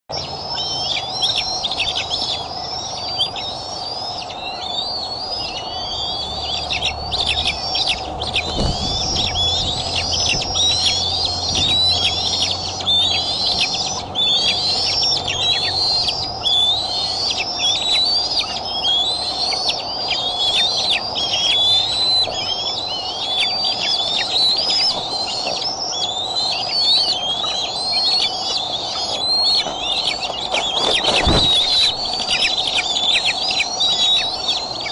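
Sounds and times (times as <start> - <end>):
eagle chittering whistles: 0.1 - 34.9
faint steady hum: 0.1 - 34.9.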